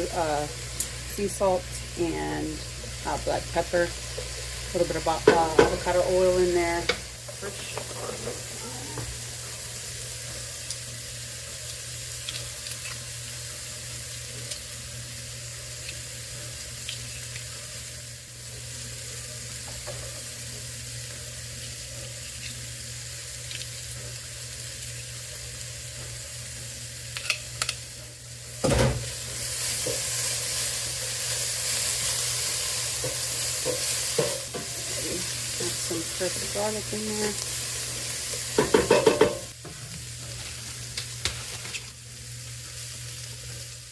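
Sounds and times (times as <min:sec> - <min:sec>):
vegetables sizzling in hot oil: 0:00.0 - 0:43.9.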